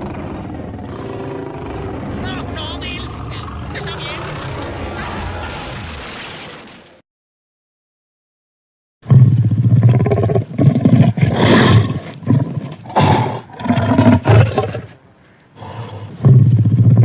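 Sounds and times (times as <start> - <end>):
lion roars and growls: 0.0 - 6.6, 9.0 - 17.0.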